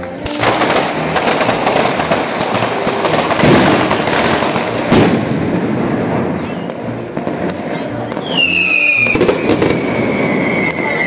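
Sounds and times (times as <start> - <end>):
firecrackers crackling barrage: 0.0 - 11.0.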